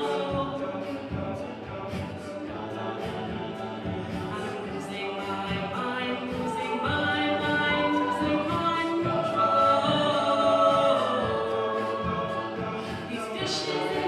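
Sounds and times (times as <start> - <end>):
a cappella group singing: 0.0 - 14.0
vocal percussion beat: 0.0 - 14.0.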